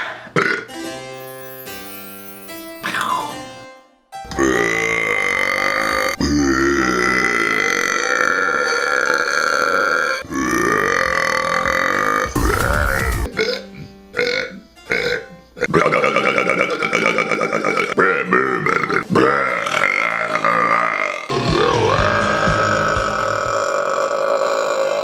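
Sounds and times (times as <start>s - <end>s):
man burping: 0.3s - 0.8s, 2.8s - 3.4s, 4.3s - 12.4s, 13.2s - 25.0s.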